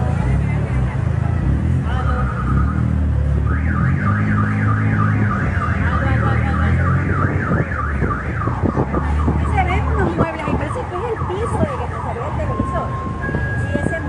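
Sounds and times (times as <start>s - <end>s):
voices calling out: 0.0s - 14.0s
car alarm warbling: 2.2s - 14.0s.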